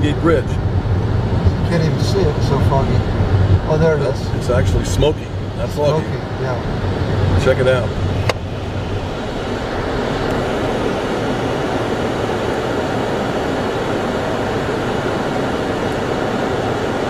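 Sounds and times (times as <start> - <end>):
car interior rumble and hiss: 0.0 - 17.0.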